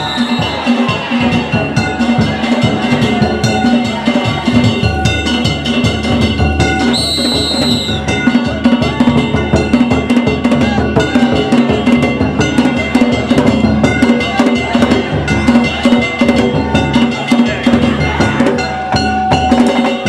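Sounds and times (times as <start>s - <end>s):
taiko drums: 0.0s - 20.0s.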